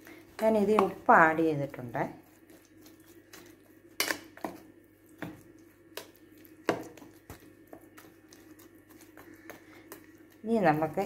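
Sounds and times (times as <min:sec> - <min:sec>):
spoon stirring in metal bowl: 0:00.0 - 0:11.0.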